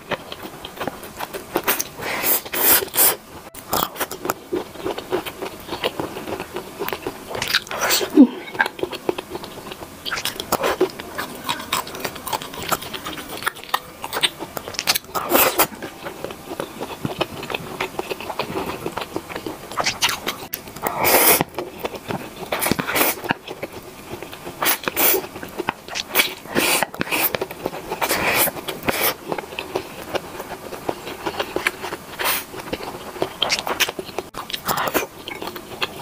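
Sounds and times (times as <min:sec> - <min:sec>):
wet chewing clicks: 0:03.6 - 0:36.0.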